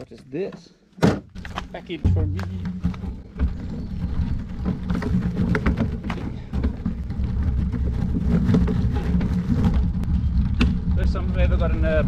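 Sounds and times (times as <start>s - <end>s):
tyres crackling on gravel: 1.3s - 12.0s
wind rumbling on microphone: 2.0s - 12.0s.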